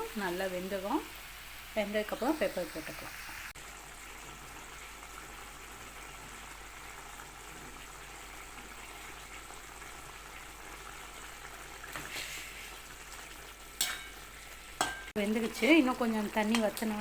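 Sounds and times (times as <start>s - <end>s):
chicken simmering in covered pan: 0.0s - 17.0s.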